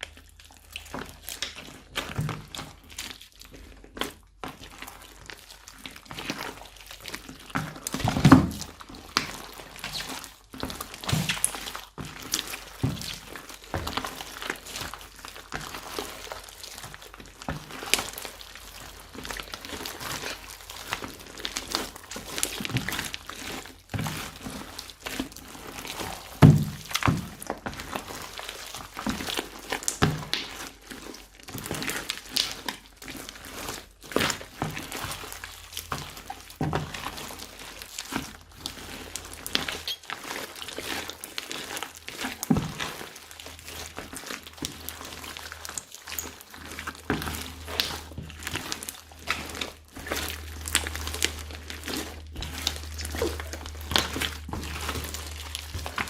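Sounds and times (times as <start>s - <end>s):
slime squished by hand: 0.0s - 56.0s.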